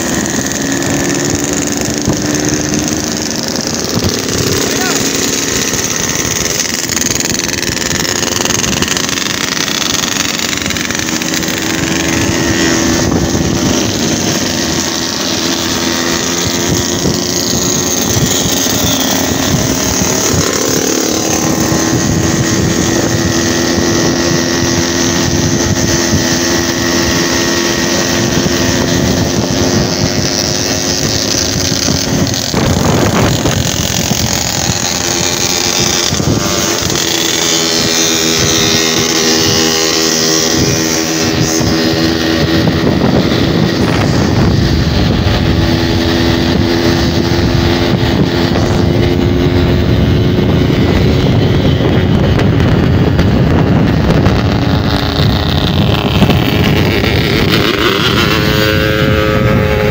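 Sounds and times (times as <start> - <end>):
two-stroke motorcycles engine drone: 0.0 - 59.9.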